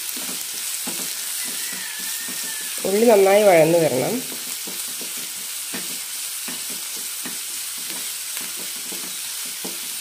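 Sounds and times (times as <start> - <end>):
onions sizzling in oil: 0.0 - 10.0
wooden spatula scraping pan: 0.1 - 10.0.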